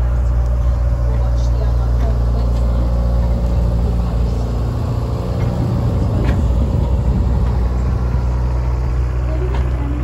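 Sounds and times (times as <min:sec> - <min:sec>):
diesel engine of passing tram: 0:00.0 - 0:10.0.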